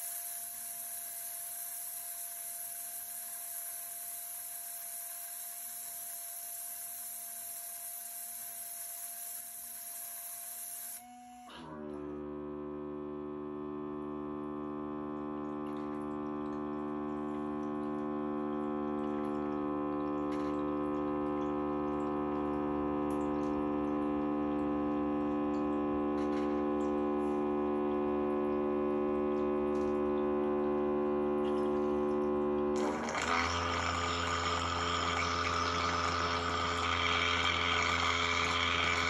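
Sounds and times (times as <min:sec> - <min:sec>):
steady electric hum: 0:00.0 - 0:39.0.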